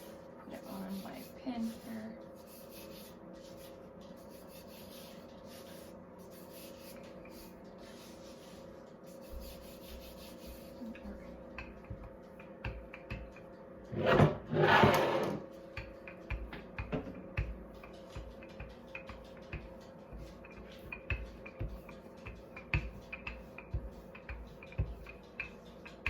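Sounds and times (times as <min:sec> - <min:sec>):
rolling pin rolling dough: 0:00.0 - 0:26.0.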